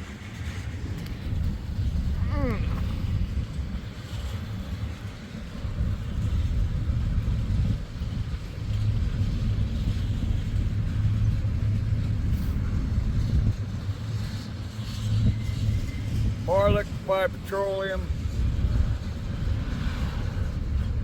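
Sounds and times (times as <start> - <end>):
freight train cars rumbling past: 0.0 - 21.0.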